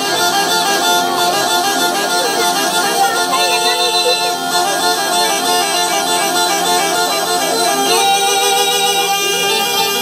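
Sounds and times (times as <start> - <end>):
reed pipes playing melody with drone: 0.0 - 10.0.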